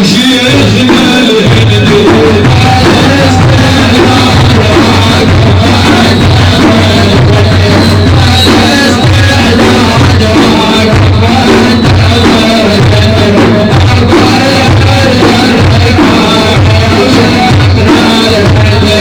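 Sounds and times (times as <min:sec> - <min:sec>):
loud music with drum beat: 0:00.0 - 0:19.0.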